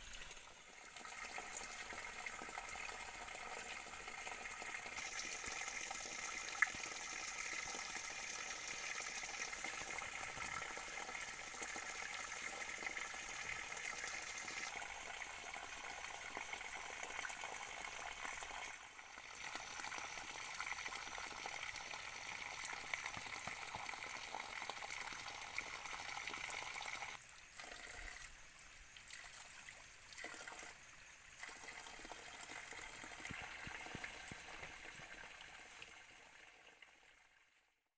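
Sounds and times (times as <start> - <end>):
stream water running over rocks: 0.0 - 37.0.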